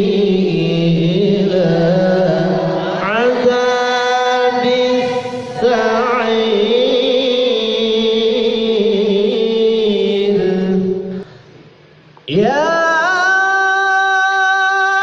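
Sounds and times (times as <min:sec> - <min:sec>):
man reciting melodically: 0:00.0 - 0:11.6, 0:12.2 - 0:15.0.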